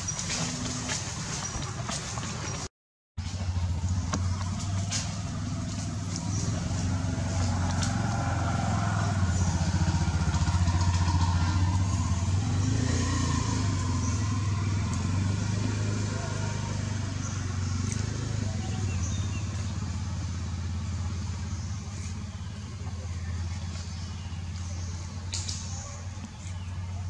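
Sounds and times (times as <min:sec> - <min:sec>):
engine running with pulsing hum: 0:03.2 - 0:27.0.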